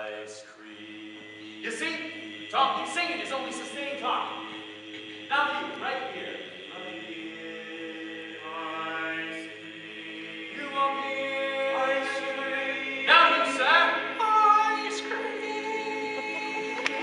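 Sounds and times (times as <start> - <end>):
male quartet singing a cappella: 0.0 - 17.0.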